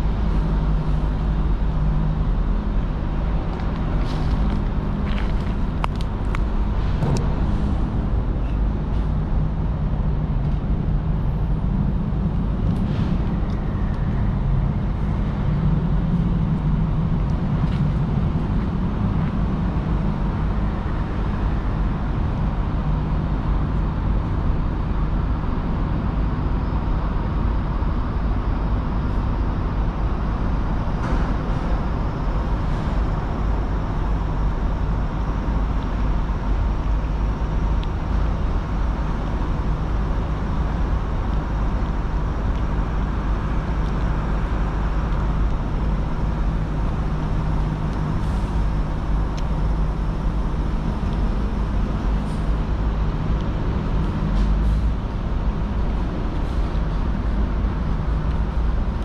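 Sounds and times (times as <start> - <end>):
constant hum: 0.0 - 59.0
urban background rumble: 0.0 - 59.0.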